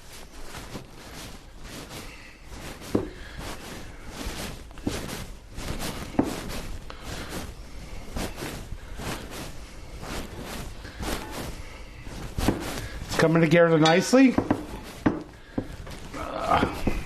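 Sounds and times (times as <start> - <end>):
hands kneading dough: 0.0 - 17.0.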